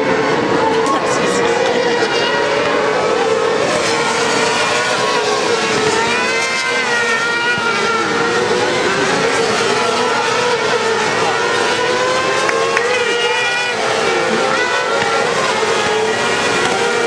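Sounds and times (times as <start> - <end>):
kart engines racing: 0.0 - 17.0.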